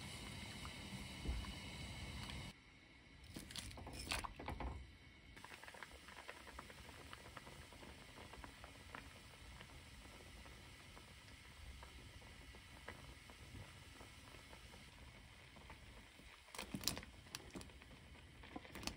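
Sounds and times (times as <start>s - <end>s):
stew bubbling at a boil: 0.0s - 2.6s, 3.2s - 18.9s.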